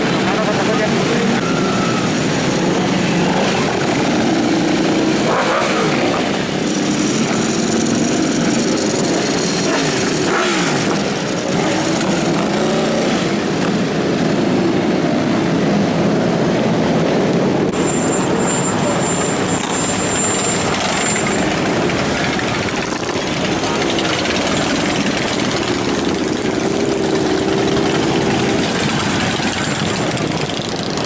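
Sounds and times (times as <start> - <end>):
busy traffic: 0.0 - 31.0
motorcycles revving and passing: 0.0 - 31.0.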